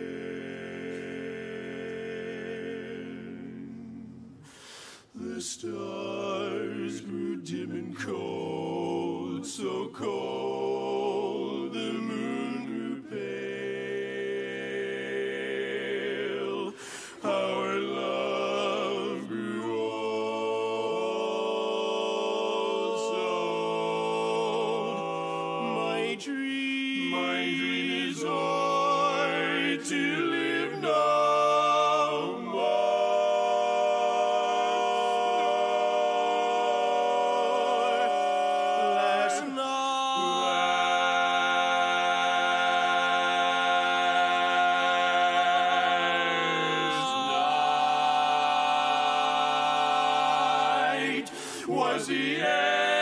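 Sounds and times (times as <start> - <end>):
male quartet singing a cappella: 0.0 - 53.0.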